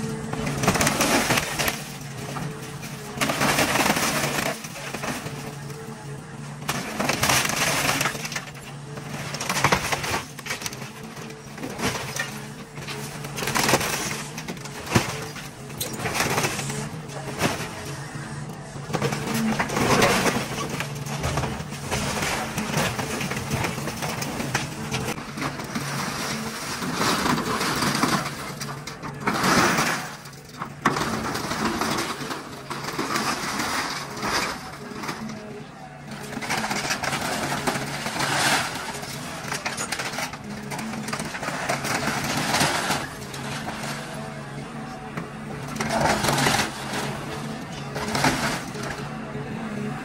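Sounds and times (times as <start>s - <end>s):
crunching scraping sheet metal: 0.0s - 49.2s
excavator engine running: 0.0s - 50.0s.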